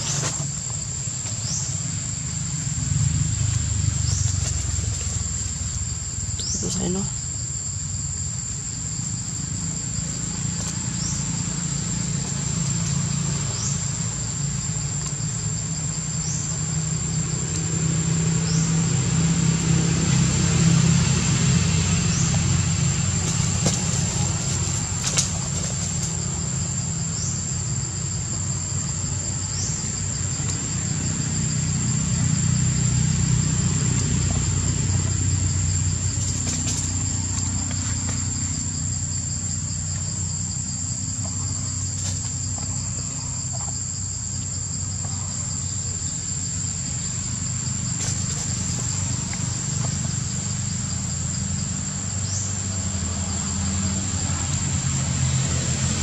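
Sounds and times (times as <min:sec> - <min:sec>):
engine rumbling: 0:00.0 - 0:56.0
high-pitched insect drone: 0:00.0 - 0:56.0.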